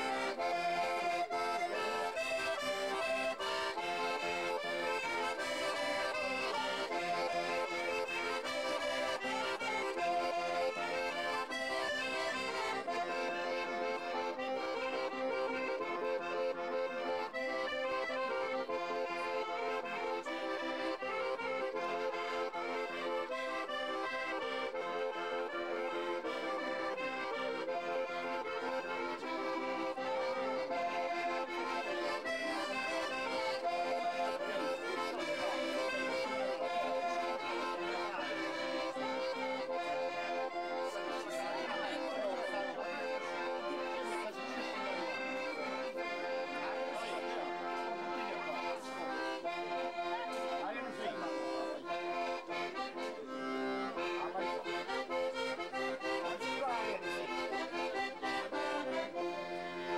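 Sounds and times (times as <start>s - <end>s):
accordion folk dance tune: 0.0s - 59.9s.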